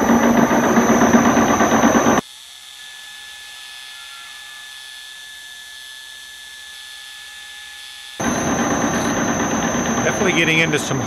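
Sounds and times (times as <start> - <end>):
metal lathe whine: 0.0 - 11.0.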